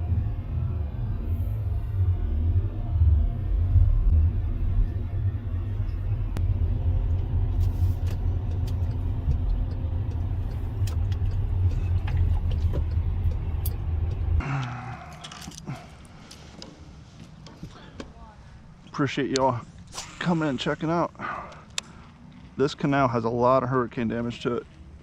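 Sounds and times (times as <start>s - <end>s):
car driving rumble: 0.0s - 23.1s.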